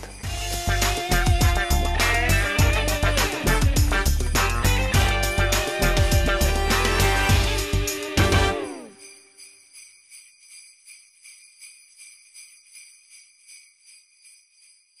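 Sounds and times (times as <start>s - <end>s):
music: 0.0s - 14.4s
jingle bells shaken: 0.0s - 15.0s.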